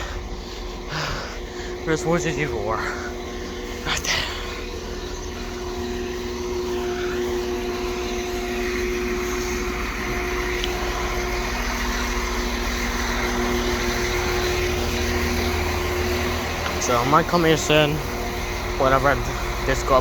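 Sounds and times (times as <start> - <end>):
vehicle engine droning hum: 0.0 - 20.0.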